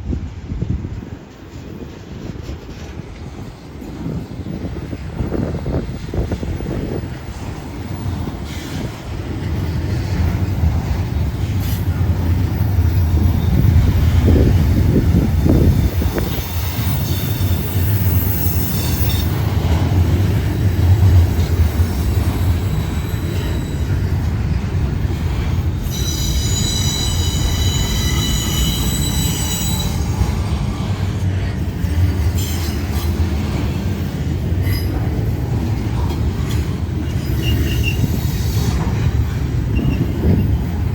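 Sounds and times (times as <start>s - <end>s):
freight train wheels rumbling: 0.0s - 40.9s
train wheels squealing: 2.7s - 40.9s.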